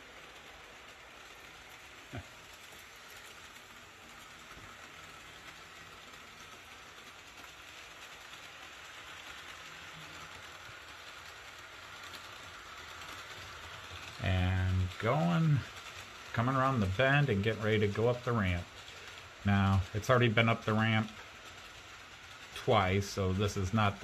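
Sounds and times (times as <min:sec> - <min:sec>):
model train rolling hiss: 0:00.0 - 0:24.0.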